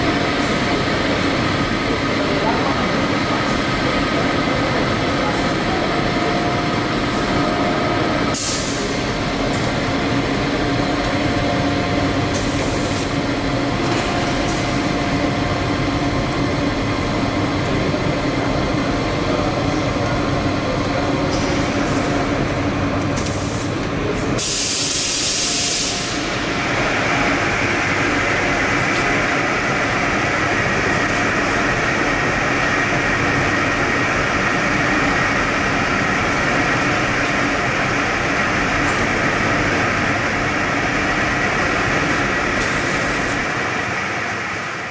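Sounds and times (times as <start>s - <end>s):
machinery hum: 0.0s - 44.9s.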